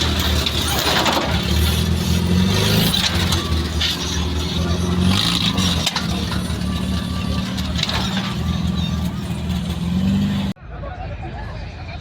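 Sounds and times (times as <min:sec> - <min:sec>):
vehicle engine at low revs: 0:00.0 - 0:10.6.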